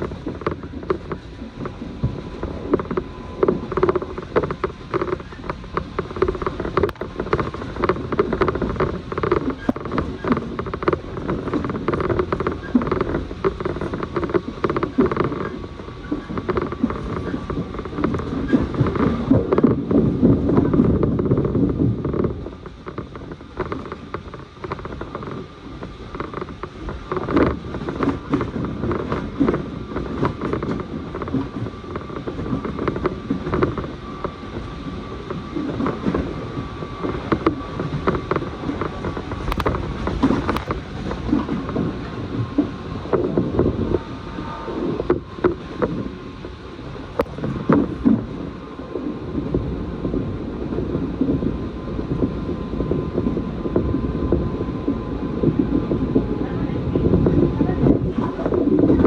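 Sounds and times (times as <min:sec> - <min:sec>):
wheels clacking over rail joints: 0:00.0 - 0:48.6
faint steady whine: 0:00.0 - 0:59.0
train wheels rumbling on track: 0:00.0 - 0:59.0.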